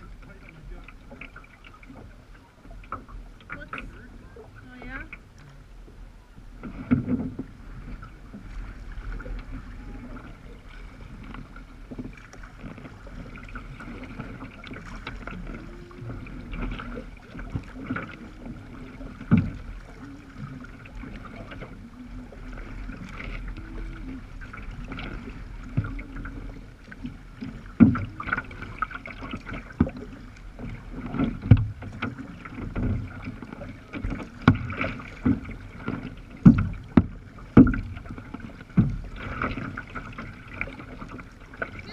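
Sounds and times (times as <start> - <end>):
waves slapping against kayak hull: 0.0 - 41.9.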